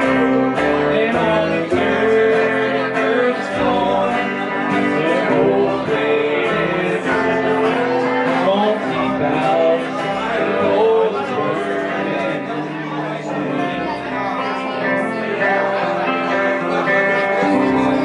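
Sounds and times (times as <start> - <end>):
electric guitar: 0.0 - 18.0
upright bass: 0.0 - 18.0.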